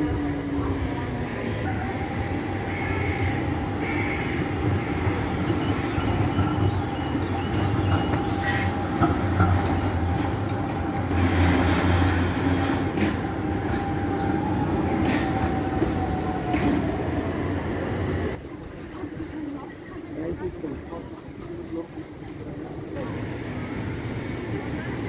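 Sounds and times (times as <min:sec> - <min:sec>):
tram rumbling past: 0:00.0 - 0:25.0.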